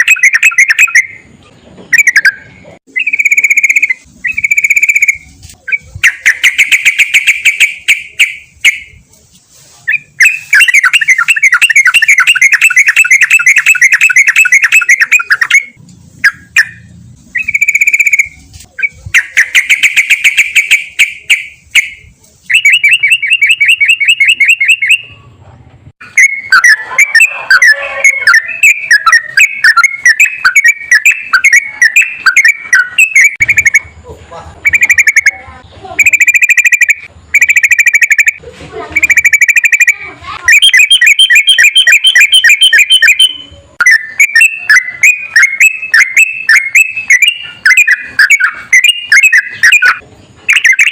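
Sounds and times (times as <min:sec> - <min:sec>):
bulbul singing loudly: 0:00.0 - 0:01.3, 0:01.9 - 0:09.0, 0:09.9 - 0:25.3, 0:26.0 - 0:34.0, 0:34.6 - 0:50.9.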